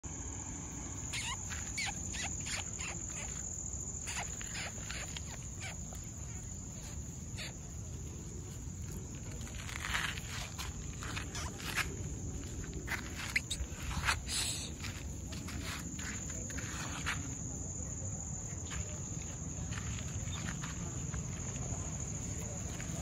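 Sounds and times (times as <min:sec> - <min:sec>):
crickets trilling: 0:00.1 - 0:23.0.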